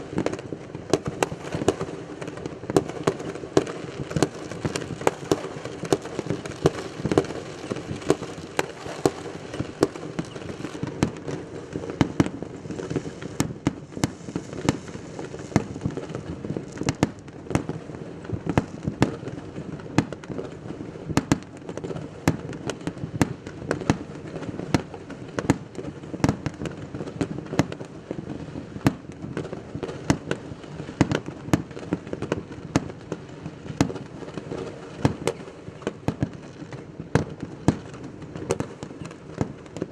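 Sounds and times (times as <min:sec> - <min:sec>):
distant fireworks: 0:00.0 - 0:39.9
fireworks sharp bangs: 0:00.0 - 0:39.9.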